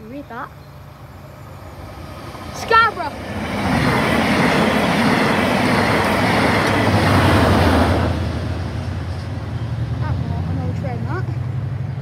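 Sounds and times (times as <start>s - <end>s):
locomotive low hum: 0.0s - 12.0s
train wheels rushing on rails: 0.8s - 12.0s.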